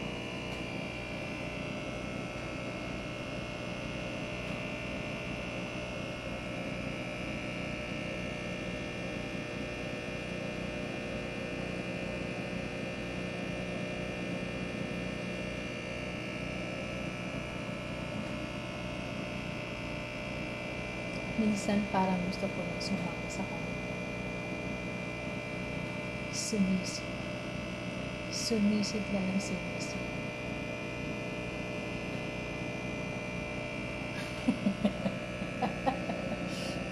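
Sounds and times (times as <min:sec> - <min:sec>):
motor droning: 0:00.0 - 0:36.9.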